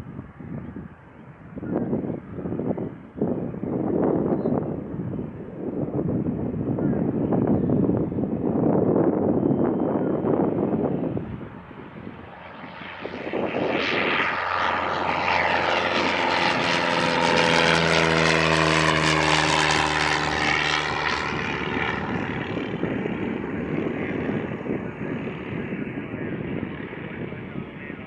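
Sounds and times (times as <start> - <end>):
propeller airplane passing: 0.1 - 28.0.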